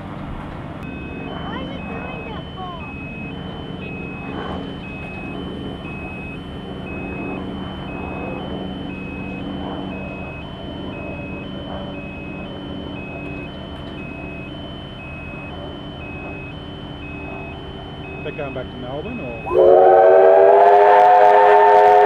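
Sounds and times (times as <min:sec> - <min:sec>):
two-tone electronic alarm beeps: 0:00.8 - 0:22.0.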